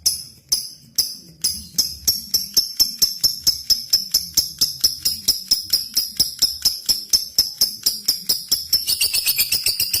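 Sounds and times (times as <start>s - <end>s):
lovebird chirping trill: 0.0s - 10.0s.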